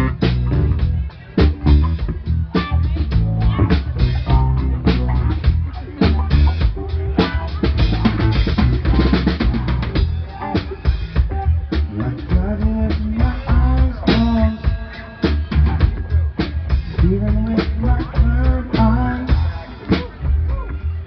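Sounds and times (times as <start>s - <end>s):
drum kit kick and snare: 0.0s - 20.8s
rock band playing: 0.0s - 21.0s.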